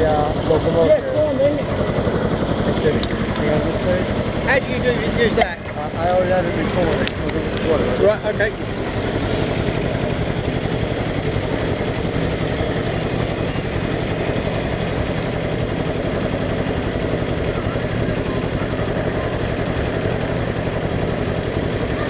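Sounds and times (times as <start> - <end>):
locomotive engine running: 0.0 - 22.0.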